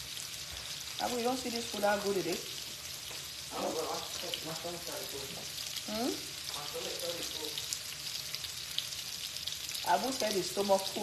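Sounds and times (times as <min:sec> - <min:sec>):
onions sizzling on a griddle: 0:00.0 - 0:11.0.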